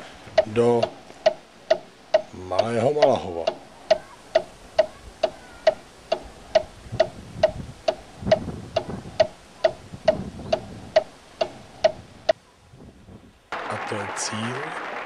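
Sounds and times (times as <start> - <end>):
clock ticking: 0.0 - 12.4.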